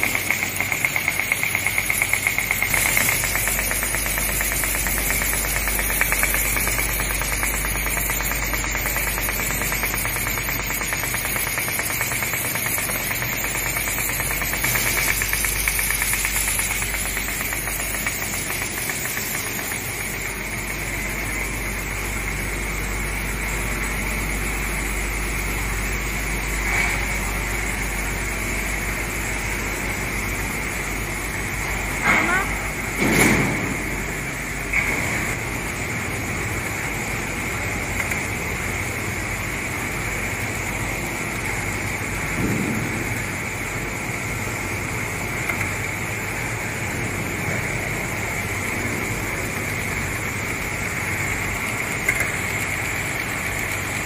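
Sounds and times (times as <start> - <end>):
machine clatter and rattle: 0.0 - 23.6, 24.8 - 54.0
low machine hum: 0.0 - 54.0.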